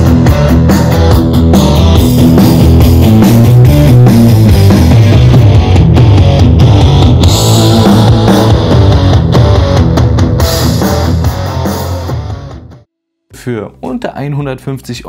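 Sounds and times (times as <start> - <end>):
rock music through speaker: 0.0 - 12.8.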